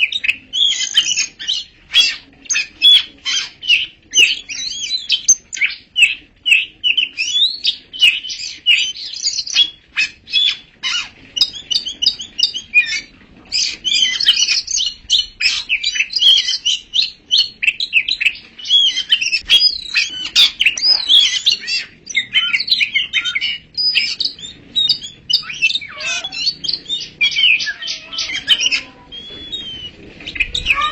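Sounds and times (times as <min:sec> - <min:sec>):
bird singing varied song: 0:00.0 - 0:30.9.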